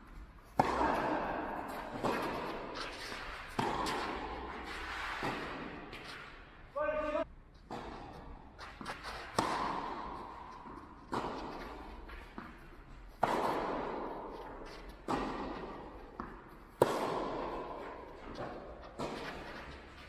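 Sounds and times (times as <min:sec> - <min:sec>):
tennis balls struck by racquets: 0:00.0 - 0:06.7, 0:07.6 - 0:20.0.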